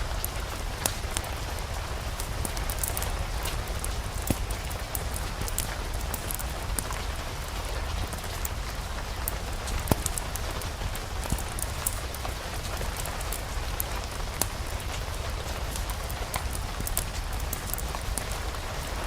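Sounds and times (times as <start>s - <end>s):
rain falling: 0.0s - 19.0s
rain pops and clicks: 0.0s - 19.0s.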